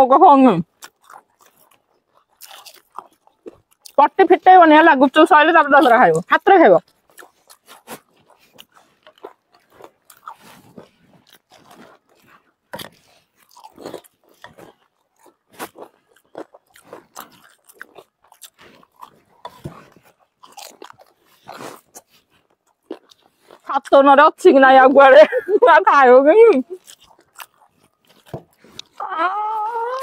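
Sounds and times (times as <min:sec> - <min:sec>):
people chewing: 0:00.6 - 0:30.0.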